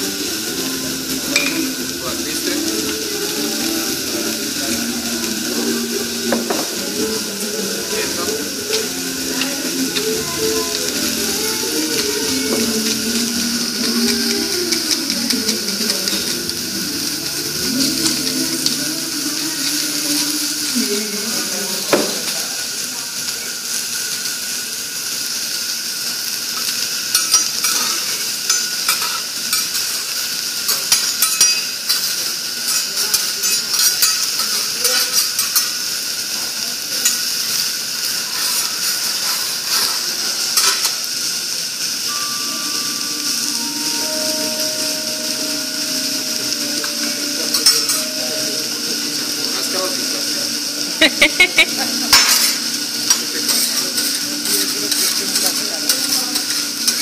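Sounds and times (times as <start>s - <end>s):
food sizzling on a griddle: 0.0s - 57.0s.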